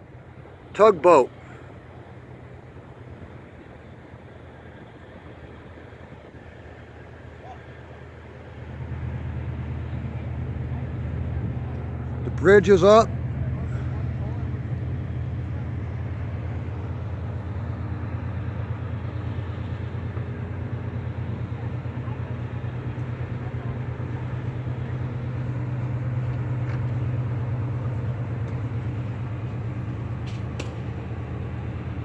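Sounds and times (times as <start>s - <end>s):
diesel engine throbbing: 0.0s - 32.0s.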